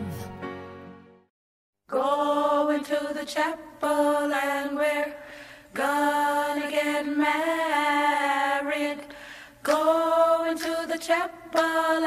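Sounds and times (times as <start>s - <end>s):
voices singing in close harmony: 1.9s - 12.0s.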